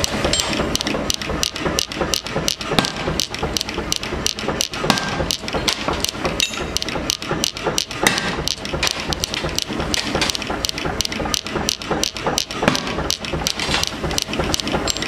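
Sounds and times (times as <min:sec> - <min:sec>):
power hammer striking steel: 0:00.0 - 0:15.0.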